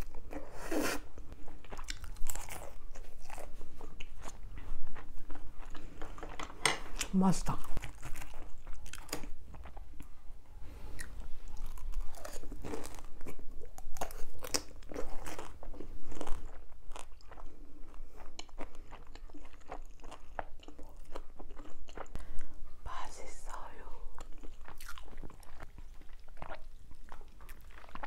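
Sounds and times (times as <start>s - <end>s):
crunching and chewing food: 0.0s - 22.8s, 24.1s - 28.0s.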